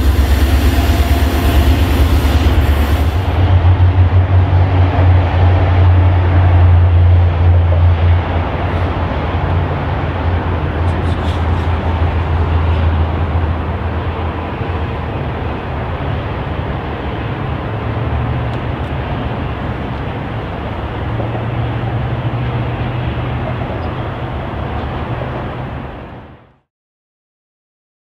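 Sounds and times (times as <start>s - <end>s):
diesel locomotive engine drone: 0.0s - 26.7s.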